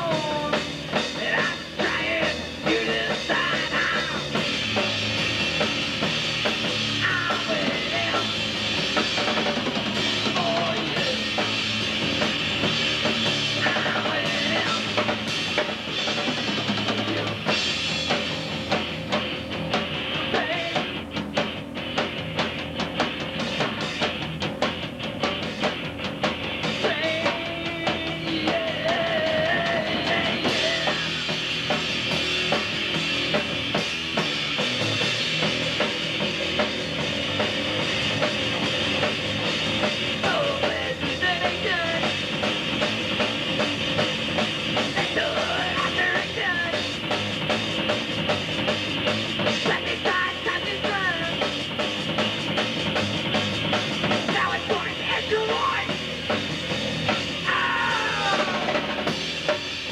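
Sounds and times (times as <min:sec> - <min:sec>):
punk band playing: 0:00.0 - 0:59.9.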